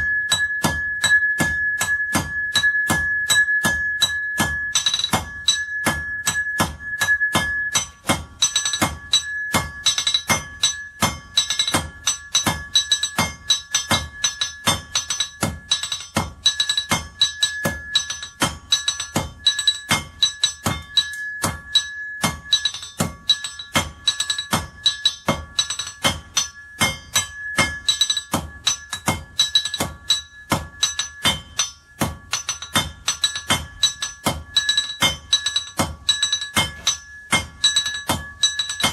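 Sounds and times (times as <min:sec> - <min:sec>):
hammer blows on anvil: 0:00.0 - 0:38.9.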